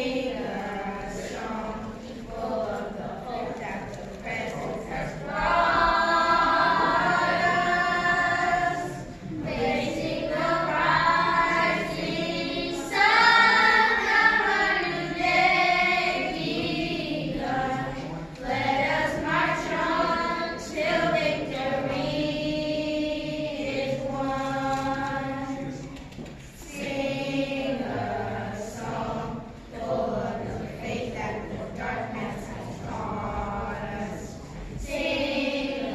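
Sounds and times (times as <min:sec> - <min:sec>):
children's choir singing: 0:00.0 - 0:35.9.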